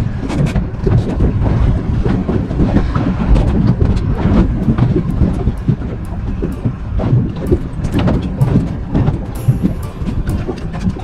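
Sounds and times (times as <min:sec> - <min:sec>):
knocks and clicks on boat: 0:00.0 - 0:11.0
wind and sea rumble: 0:00.0 - 0:11.0.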